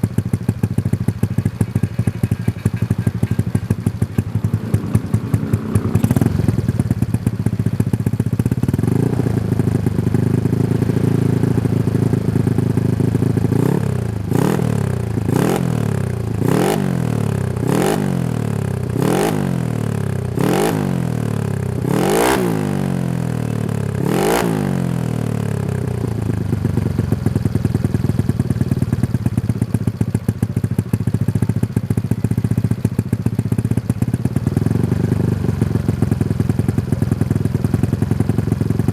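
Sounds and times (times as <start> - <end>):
scooter engine revving: 0.0 - 32.3, 32.9 - 38.9.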